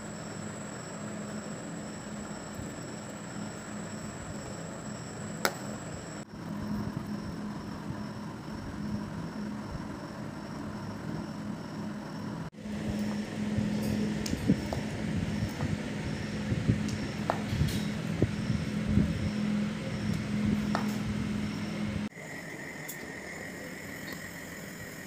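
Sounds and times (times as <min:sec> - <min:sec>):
background hum: 0:00.0 - 0:25.0
low pulsing drone: 0:00.0 - 0:25.0.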